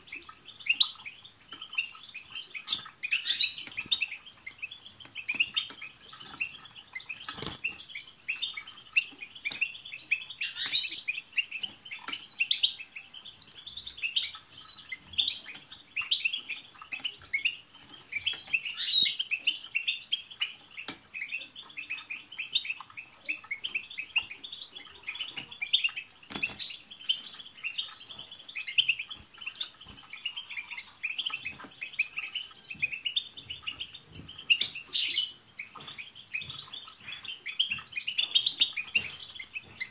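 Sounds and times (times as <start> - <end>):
birds twittering: 0.0 - 39.9
high tinkling bird calls: 0.0 - 39.9.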